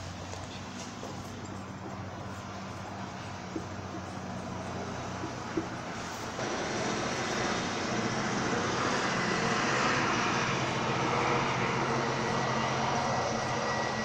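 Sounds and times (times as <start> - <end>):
passing vehicle engine hum: 0.0 - 14.0.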